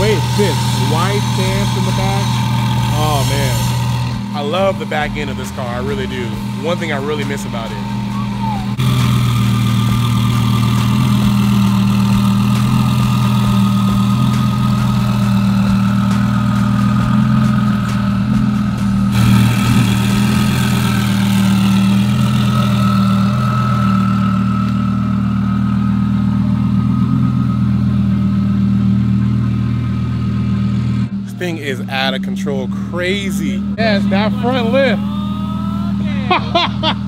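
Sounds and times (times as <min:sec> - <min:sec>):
car engine idling: 0:00.0 - 0:37.0
high whine: 0:00.0 - 0:37.0.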